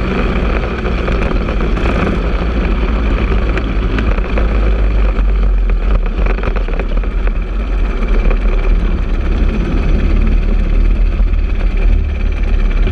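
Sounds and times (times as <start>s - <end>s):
kart engine running: 0.0s - 12.9s.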